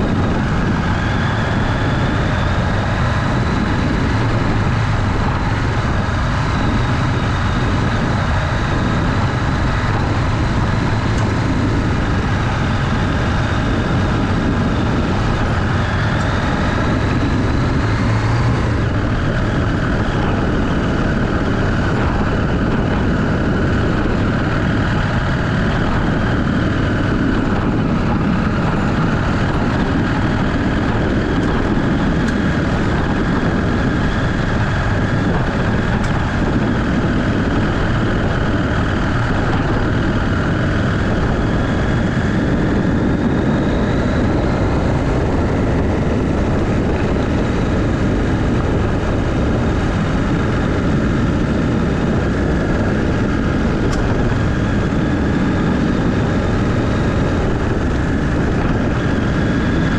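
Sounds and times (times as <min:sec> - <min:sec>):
motorcycle engine running: 0:00.0 - 0:59.9
riding noise rush: 0:00.0 - 0:59.9.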